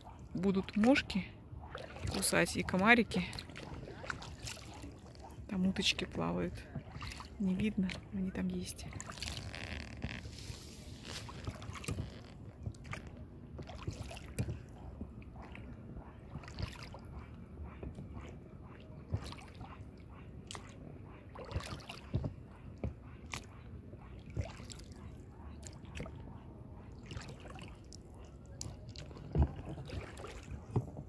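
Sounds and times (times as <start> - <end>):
water lapping against boat: 0.0 - 31.0.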